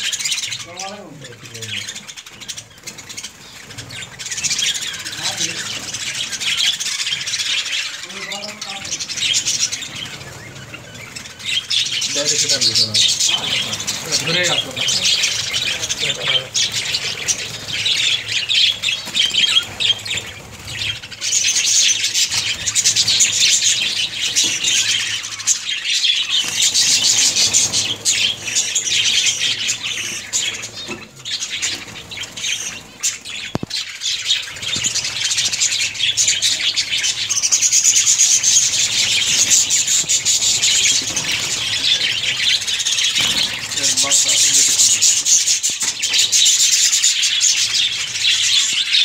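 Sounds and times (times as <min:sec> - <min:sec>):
budgerigars chattering and squawking: 0:00.0 - 0:49.0.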